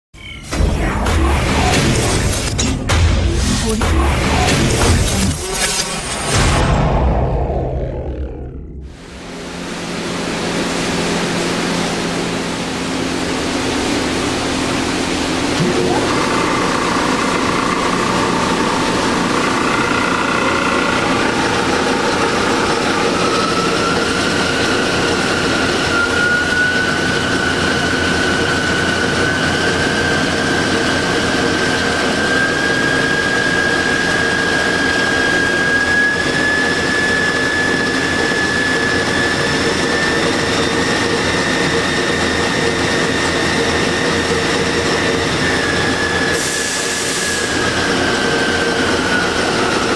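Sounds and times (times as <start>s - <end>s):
metal lathe running with whine: 9.0s - 49.9s.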